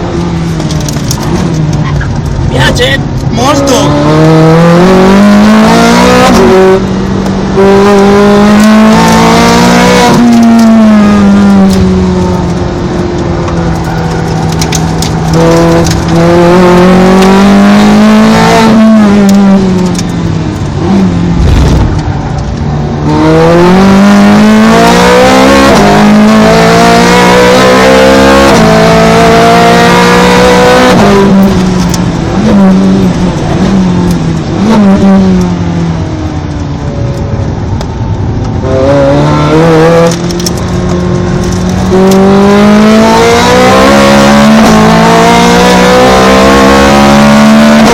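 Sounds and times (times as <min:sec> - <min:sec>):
sports car engine revving: 0:03.3 - 0:36.1, 0:38.4 - 0:47.9.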